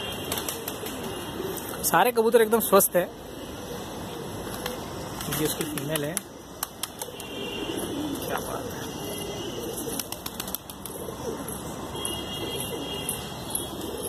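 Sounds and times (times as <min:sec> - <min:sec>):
pigeons cooing: 0:00.2 - 0:02.0, 0:03.1 - 0:14.0.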